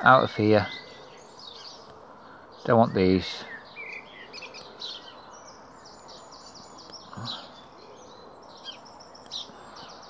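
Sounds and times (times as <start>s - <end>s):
small bird chirping: 0.0s - 10.0s
steady background hiss: 0.0s - 10.0s.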